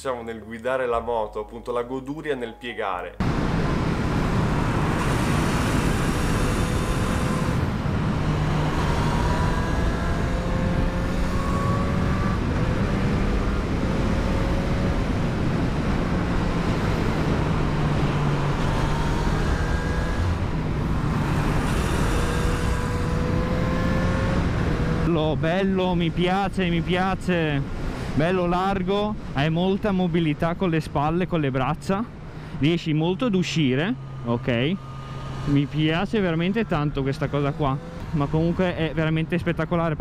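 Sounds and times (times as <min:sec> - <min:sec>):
wind and road noise: 0:03.2 - 0:40.0.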